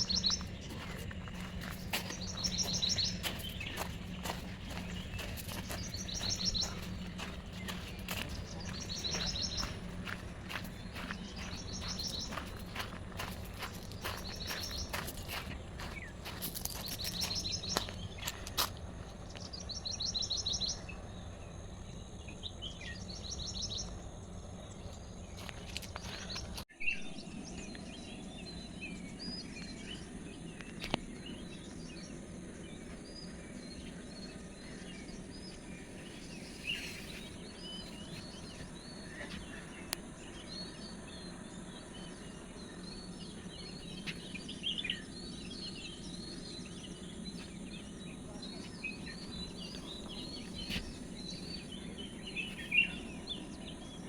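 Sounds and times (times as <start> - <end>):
outdoor background noise: 0.0 - 54.0
small birds chirping: 0.0 - 54.0.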